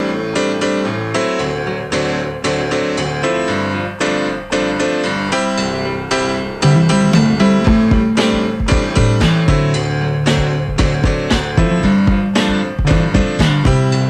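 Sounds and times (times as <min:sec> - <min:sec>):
piano background music: 0:00.0 - 0:14.0.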